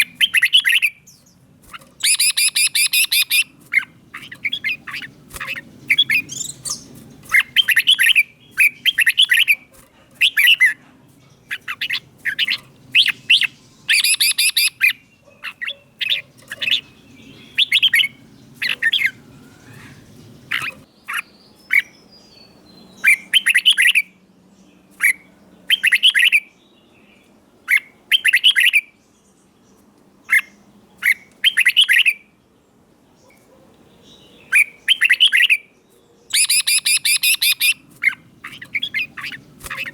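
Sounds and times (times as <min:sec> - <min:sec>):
bird singing warbling phrases: 0:00.0 - 0:39.9.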